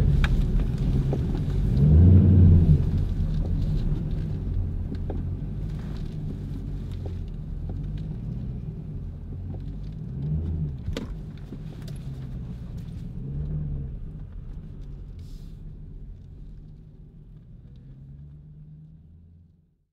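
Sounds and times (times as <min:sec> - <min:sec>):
car engine running: 0:00.0 - 0:18.9.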